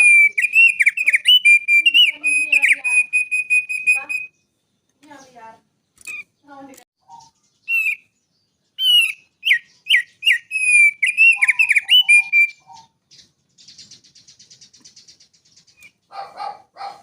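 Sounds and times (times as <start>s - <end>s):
songbird whistling and trilling: 0.0s - 5.3s, 6.0s - 16.3s.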